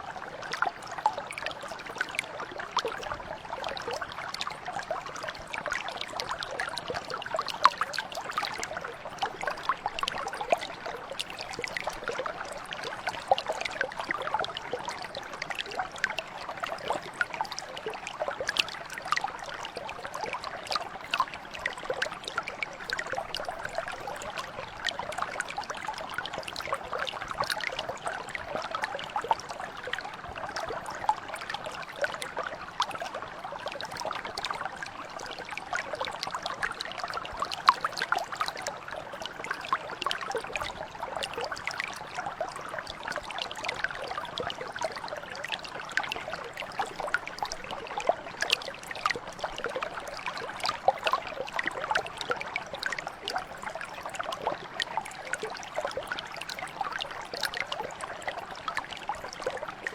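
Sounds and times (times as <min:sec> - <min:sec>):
brook flowing over stones: 0:00.0 - 0:59.9.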